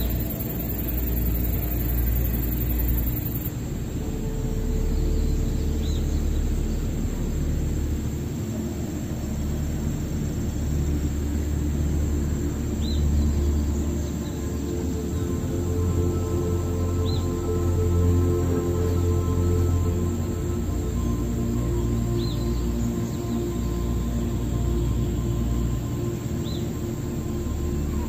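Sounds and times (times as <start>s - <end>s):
slow ambient music: 0.0s - 28.0s
steady low rumble: 0.0s - 28.0s.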